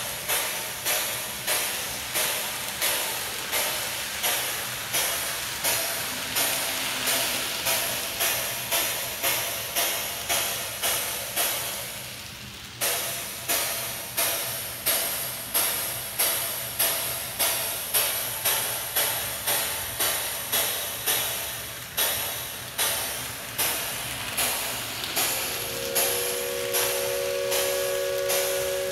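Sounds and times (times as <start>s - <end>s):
steam locomotive chuffing: 0.0s - 28.9s.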